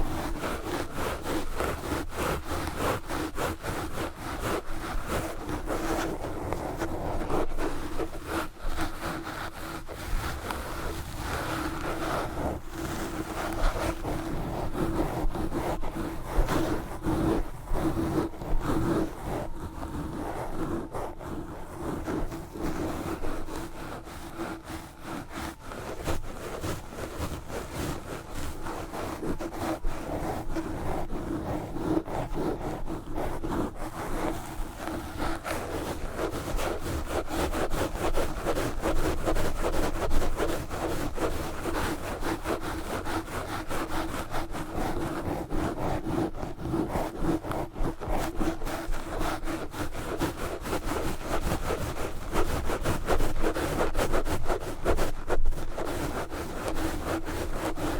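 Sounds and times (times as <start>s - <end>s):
gloves scratching a microphone: 0.0s - 57.9s.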